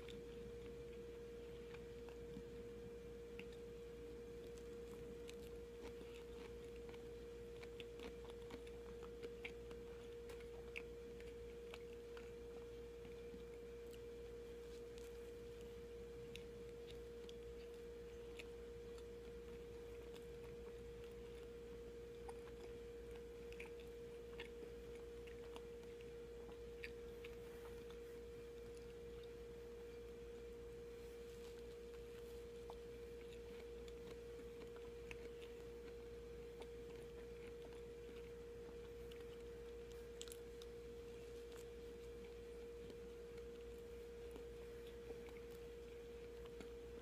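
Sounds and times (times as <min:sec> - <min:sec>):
quiet chewing: 0:00.0 - 0:47.0
steady hum: 0:00.0 - 0:47.0.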